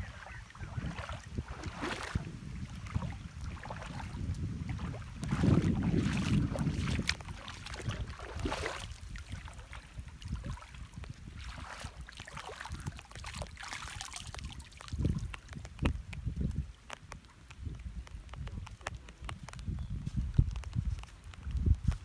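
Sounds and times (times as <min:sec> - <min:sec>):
water splashing and sloshing: 0:00.0 - 0:22.0
wind buffeting microphone: 0:00.0 - 0:22.0.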